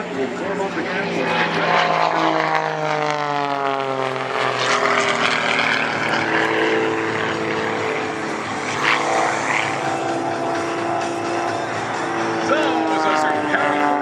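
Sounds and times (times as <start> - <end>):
propeller planes droning overhead: 0.0 - 14.0.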